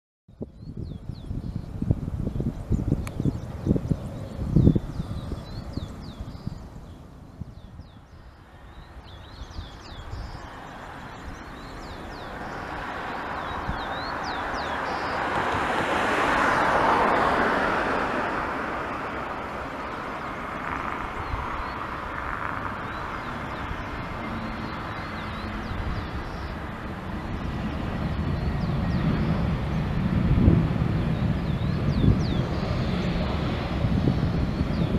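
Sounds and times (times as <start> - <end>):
birds chirping: 0.3 - 17.2, 19.2 - 30.0, 31.0 - 34.9
wind buffeting microphone: 0.3 - 34.9
jet engines roaring: 1.6 - 34.9.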